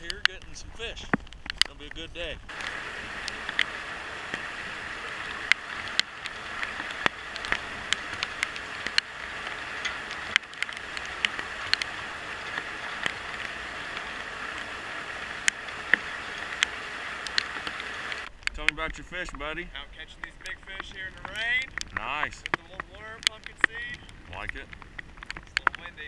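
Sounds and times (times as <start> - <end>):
raindrops tapping near microphone: 0.0 - 26.0
steady rain hiss: 0.0 - 26.0.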